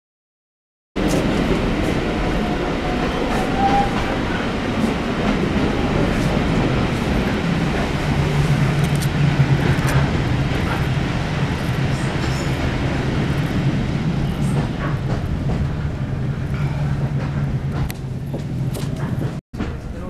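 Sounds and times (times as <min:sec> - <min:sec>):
train wheels humming on rails: 0:01.0 - 0:20.0.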